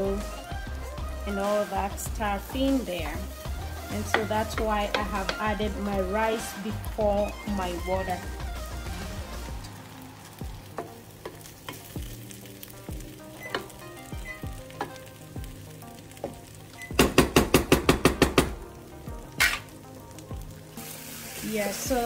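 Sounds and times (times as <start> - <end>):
rice sizzling in oil: 0.0 - 22.0.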